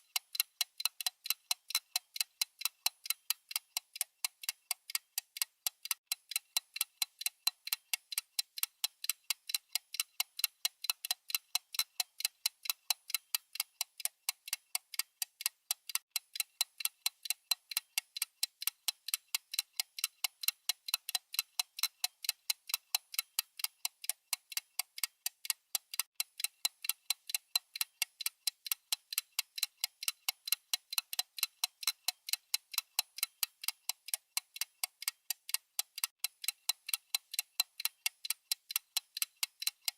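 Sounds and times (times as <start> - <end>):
watch ticking: 0.0 - 39.9.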